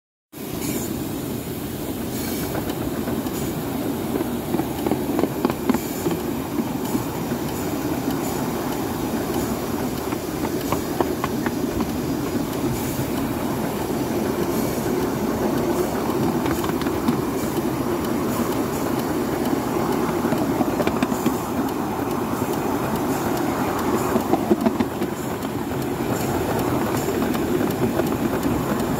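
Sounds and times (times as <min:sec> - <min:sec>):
train wheels rumbling on rails: 0:00.4 - 0:28.9
clicks over rail joints: 0:02.2 - 0:28.9.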